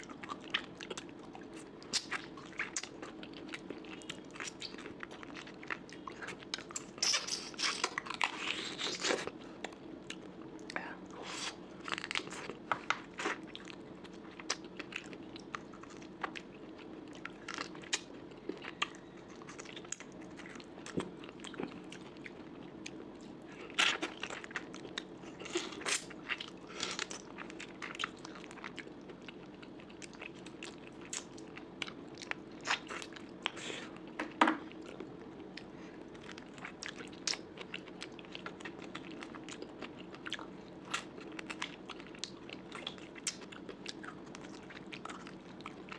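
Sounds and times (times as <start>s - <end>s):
close-miked chewing: 0.0s - 45.9s.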